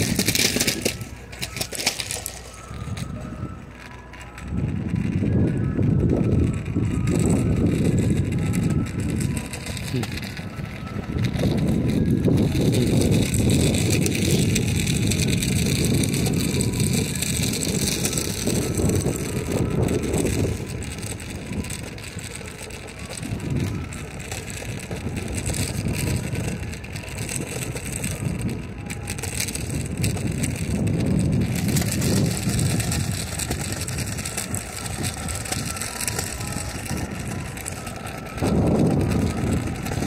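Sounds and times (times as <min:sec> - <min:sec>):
tyres rumbling over asphalt: 0:00.0 - 0:40.0
wind buffeting microphone: 0:00.0 - 0:40.0.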